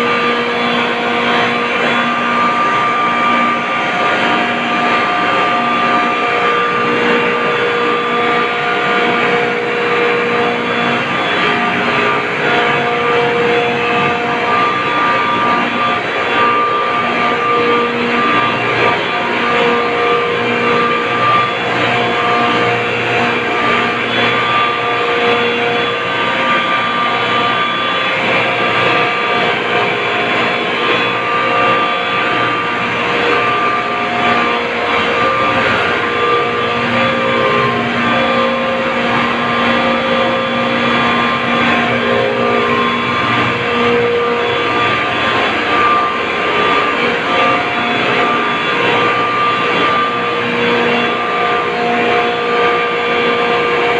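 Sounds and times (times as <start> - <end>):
electric pump motors whining: 0.0 - 53.9
refrigeration compressors droning: 0.0 - 53.9.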